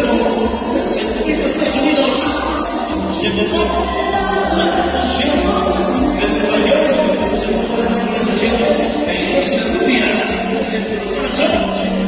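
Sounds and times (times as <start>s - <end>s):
loud cumbia dance music: 0.0s - 12.0s.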